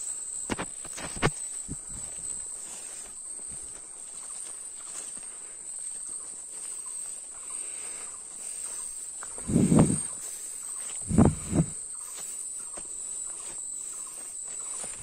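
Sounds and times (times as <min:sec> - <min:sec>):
footsteps through undergrowth: 0:00.0 - 0:15.0
high-pitched insect drone: 0:00.0 - 0:15.0.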